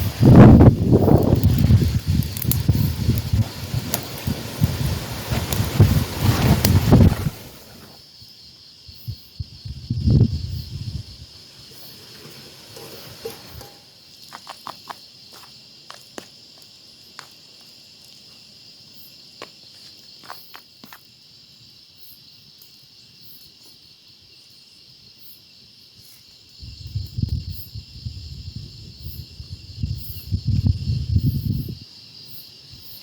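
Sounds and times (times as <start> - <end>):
crickets and insects chirping: 0.0 - 33.0.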